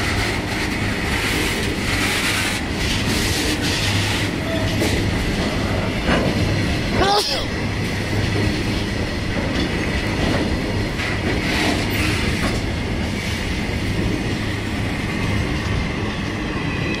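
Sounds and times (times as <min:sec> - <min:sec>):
clickety-clack of rails: 0:00.0 - 0:17.0
train wheels rumbling on rails: 0:00.0 - 0:17.0.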